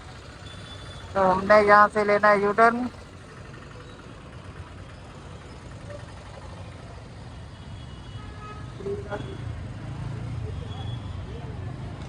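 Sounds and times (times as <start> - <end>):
engine and road noise rumble: 0.0 - 12.0.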